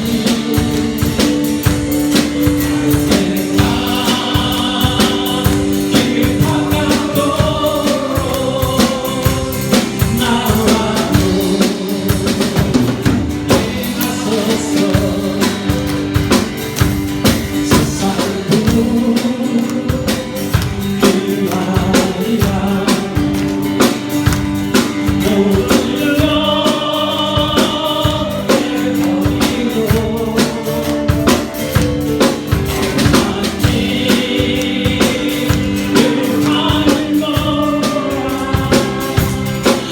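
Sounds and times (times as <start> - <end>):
congregation and band singing: 0.0 - 39.9
drum kit beat: 0.0 - 39.9.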